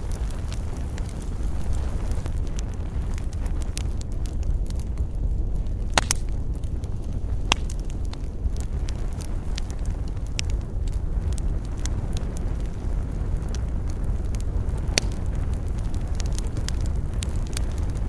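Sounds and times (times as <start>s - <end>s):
campfire flames rushing: 0.0s - 18.0s
fire crackles and pops: 0.0s - 18.0s.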